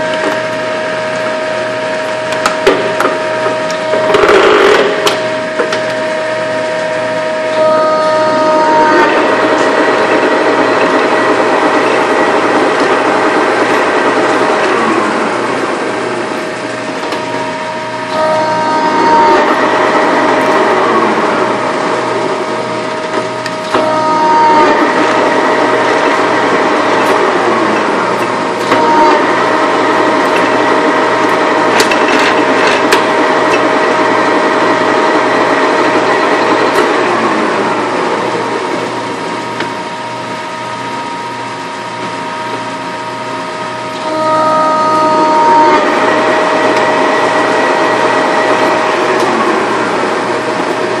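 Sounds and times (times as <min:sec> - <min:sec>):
lathe whine and rattle: 0:00.0 - 0:51.0.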